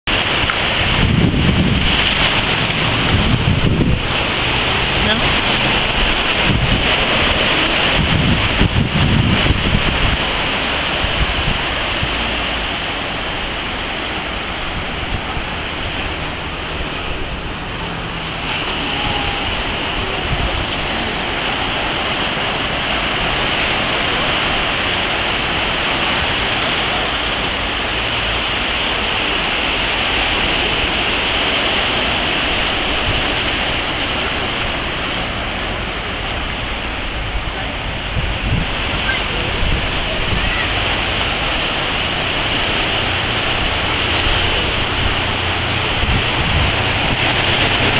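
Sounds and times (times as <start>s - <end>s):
ocean surf breaking: 0.0s - 47.9s.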